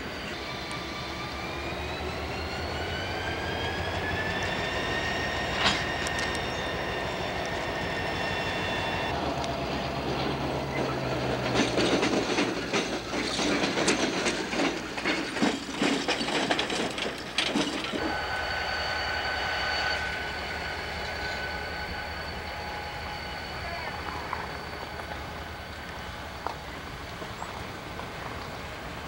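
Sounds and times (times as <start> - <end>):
high whine: 0.0 - 12.0, 17.4 - 28.7
diesel locomotive engine: 0.0 - 29.0
wheels clanking over track: 0.0 - 29.0.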